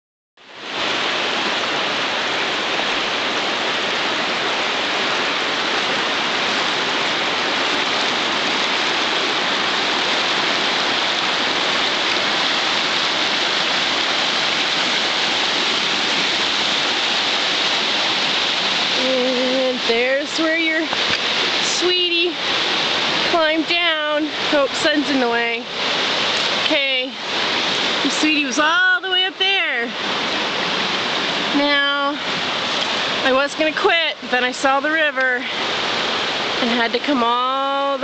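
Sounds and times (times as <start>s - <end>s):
river rushing over rocky rapids: 0.4s - 38.0s.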